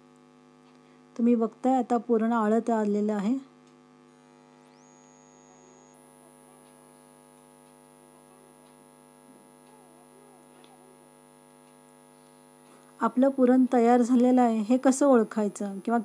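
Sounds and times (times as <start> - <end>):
faint electrical mains hum: 0.0 - 16.0.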